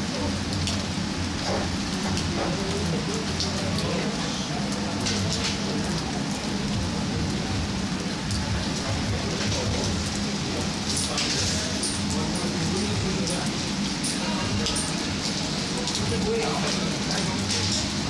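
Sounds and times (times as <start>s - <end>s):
rain on street and cars: 0.0s - 18.0s.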